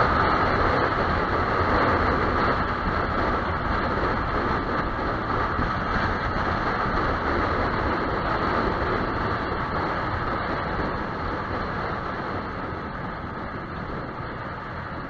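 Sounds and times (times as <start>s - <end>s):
motorcycle engine: 0.0s - 15.0s
wind: 0.0s - 15.0s.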